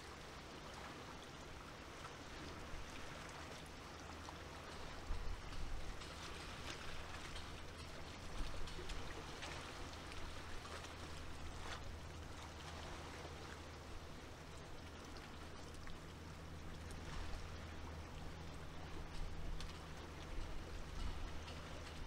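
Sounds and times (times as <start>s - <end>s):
small waves lapping: 0.0s - 22.0s.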